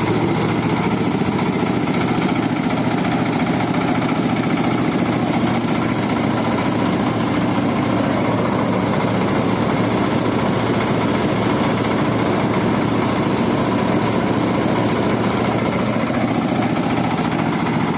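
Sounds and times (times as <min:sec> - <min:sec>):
machine humming: 0:00.0 - 0:17.9.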